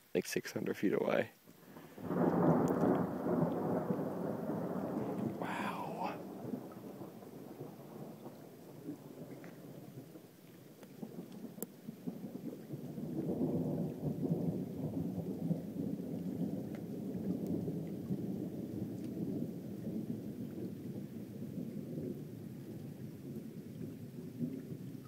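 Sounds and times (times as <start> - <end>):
thunder rumbling: 1.7 - 25.0.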